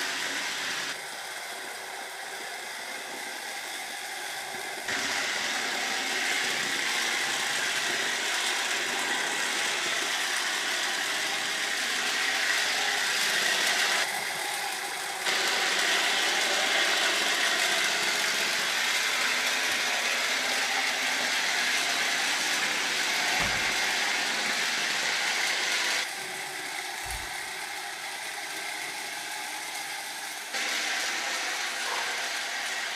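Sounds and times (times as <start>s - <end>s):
robot vacuum running: 0.0s - 32.9s.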